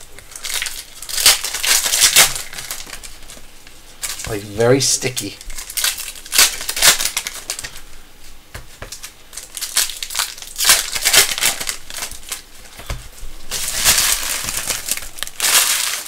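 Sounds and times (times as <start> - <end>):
foil wrapper crinkling and tearing: 0.0 - 7.9, 8.9 - 16.0.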